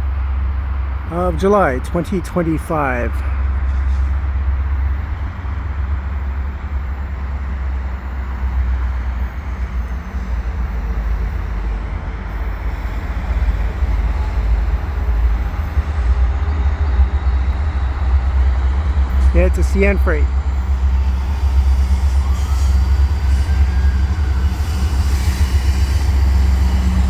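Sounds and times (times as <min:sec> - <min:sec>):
diesel locomotives rumbling: 0:00.0 - 0:27.0.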